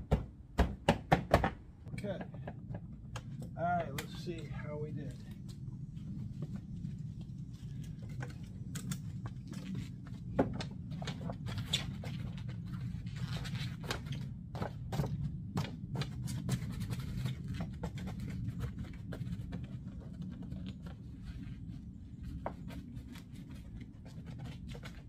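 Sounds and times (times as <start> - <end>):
steady low rumble: 1.7 - 25.0.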